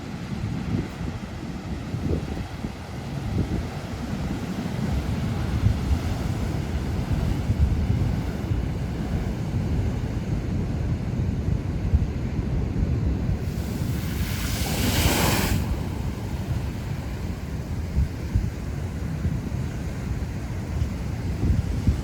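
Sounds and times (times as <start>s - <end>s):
ocean surf rumble: 0.0s - 22.0s
waves breaking and washing: 0.0s - 22.0s
wind buffeting microphone: 0.0s - 22.0s.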